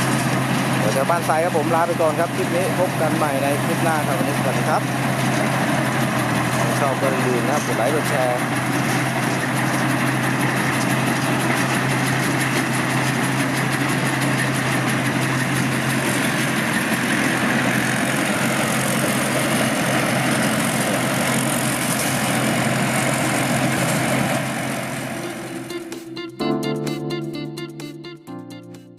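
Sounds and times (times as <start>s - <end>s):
diesel engine running: 0.0s - 28.4s.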